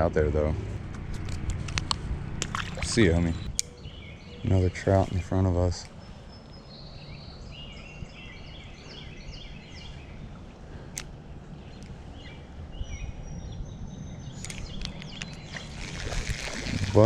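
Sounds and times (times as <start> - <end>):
low outdoor background rush: 0.0 - 17.0
songbird chirping: 1.8 - 17.0.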